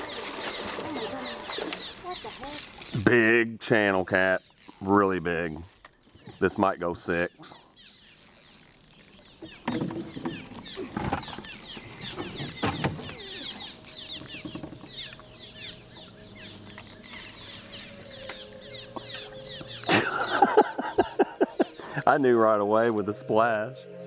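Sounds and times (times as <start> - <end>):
birds chirping chorus: 0.0 - 24.0.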